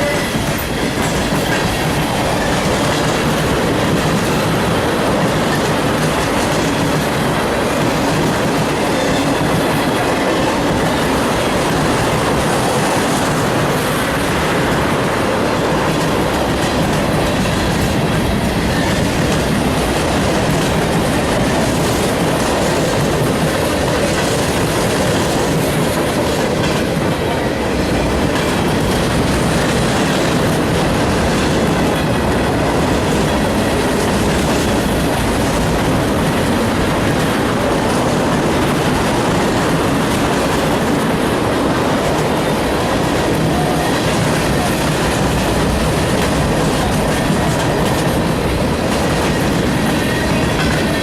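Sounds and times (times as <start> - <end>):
freight train wheels clattering: 0.0 - 51.0.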